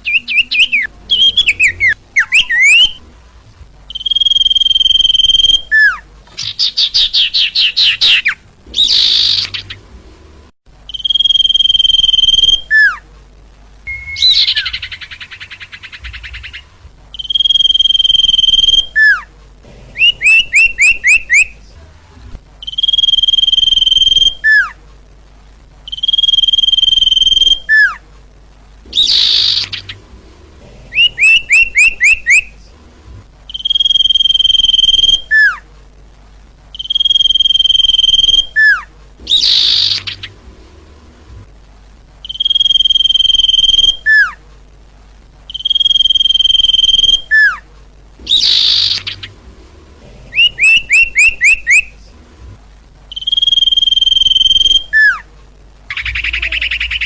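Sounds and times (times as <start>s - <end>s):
recorded bird song: 0.0s - 3.1s, 3.8s - 13.1s, 13.8s - 21.8s, 22.6s - 24.8s, 25.8s - 28.0s, 28.8s - 32.8s, 33.4s - 35.7s, 36.7s - 41.0s, 42.2s - 44.4s, 45.4s - 52.2s, 53.1s - 55.3s, 55.9s - 57.0s.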